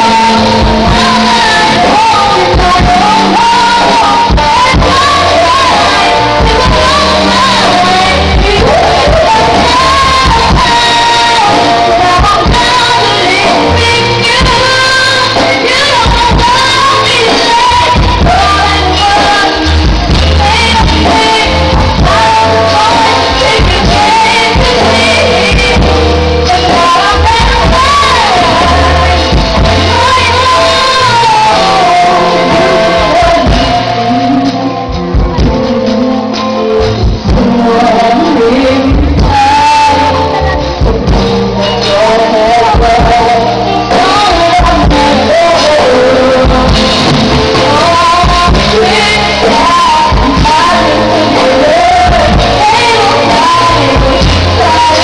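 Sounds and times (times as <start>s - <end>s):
live band through a pa: 0.0s - 55.0s
woman singing into a microphone: 0.0s - 55.0s.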